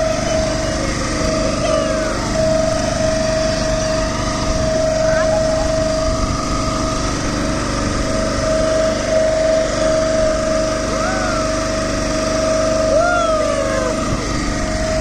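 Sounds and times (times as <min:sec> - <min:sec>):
boat motor whining: 0:00.0 - 0:15.0.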